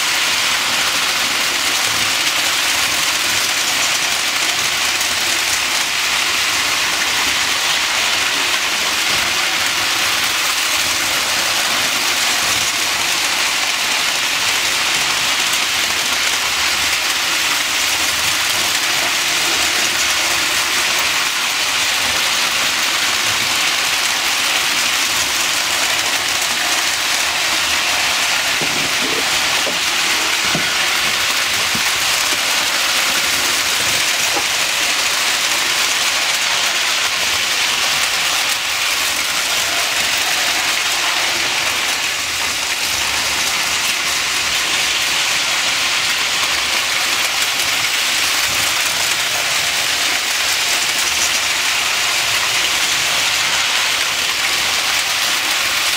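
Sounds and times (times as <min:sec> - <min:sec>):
model trains rolling whir: 0:00.0 - 0:55.9.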